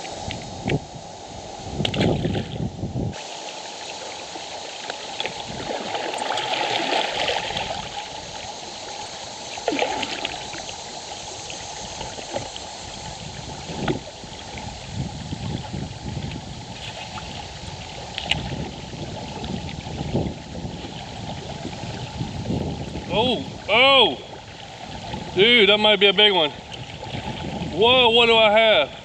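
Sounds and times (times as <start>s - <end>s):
river water trickling over rocks: 1.8s - 28.8s.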